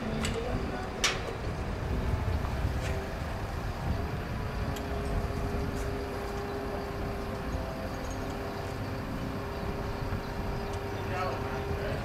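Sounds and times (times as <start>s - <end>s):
crane diesel engine rumbling: 0.0s - 12.0s
steady hum: 0.0s - 12.0s.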